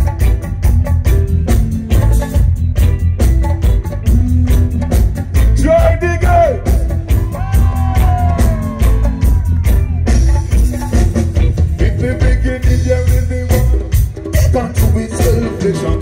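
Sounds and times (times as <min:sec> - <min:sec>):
reggae band playing: 0:00.0 - 0:16.0.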